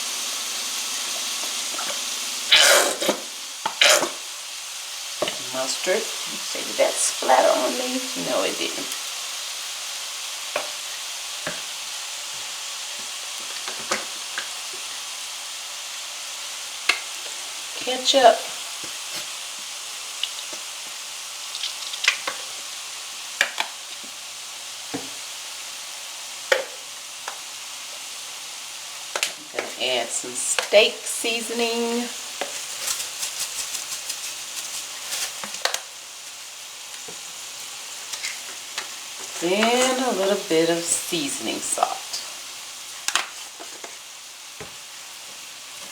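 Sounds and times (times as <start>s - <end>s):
food sizzling in a skillet: 0.0s - 45.9s.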